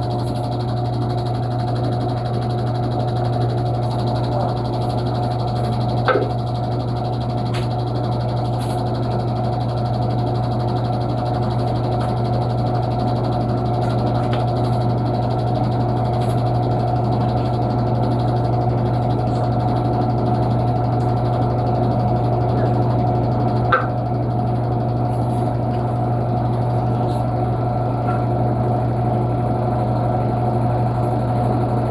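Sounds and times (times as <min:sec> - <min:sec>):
washing machine humming: 0:00.0 - 0:31.9.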